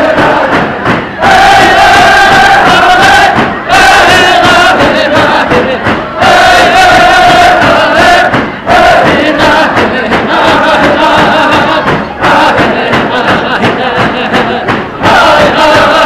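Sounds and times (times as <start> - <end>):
hand drum beats: 0.0 - 16.0
men chanting together: 0.0 - 16.0.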